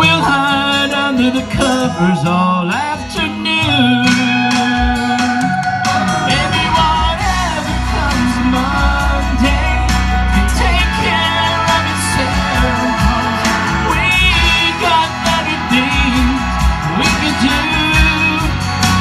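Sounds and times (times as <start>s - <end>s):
band accompaniment: 0.0s - 19.0s
person singing: 0.0s - 19.0s.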